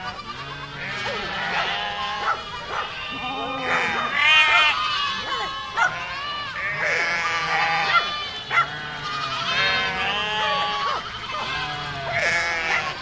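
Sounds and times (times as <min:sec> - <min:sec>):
goats bleating: 0:00.0 - 0:13.0
short sharp goat cries: 0:00.0 - 0:13.0.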